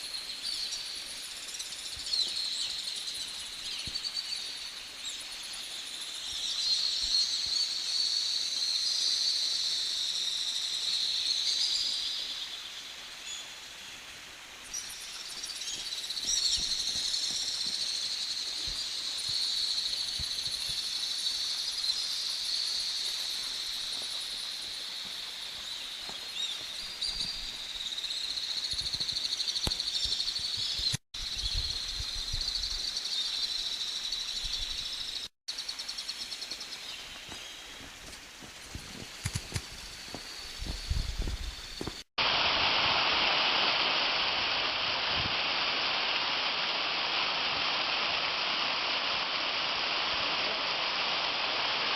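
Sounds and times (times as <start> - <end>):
birds and insects calling: 0.0 - 42.1.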